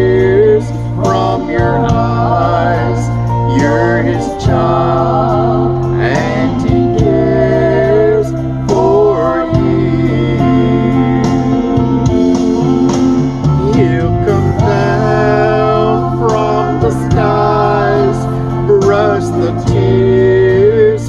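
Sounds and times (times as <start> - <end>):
man singing gospel song: 0.0 - 12.3, 13.5 - 21.0
instrumental backing track: 0.0 - 21.0.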